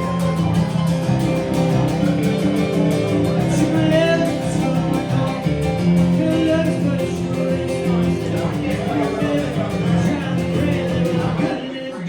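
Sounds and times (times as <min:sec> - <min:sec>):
rock and roll band playing: 0:00.0 - 0:11.9.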